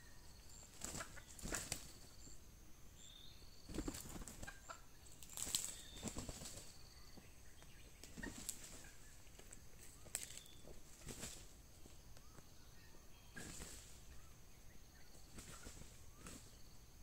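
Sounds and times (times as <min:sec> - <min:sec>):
birds wing flapping and scuffling: 0:00.4 - 0:02.3, 0:03.6 - 0:12.5, 0:13.3 - 0:14.3, 0:15.1 - 0:17.0.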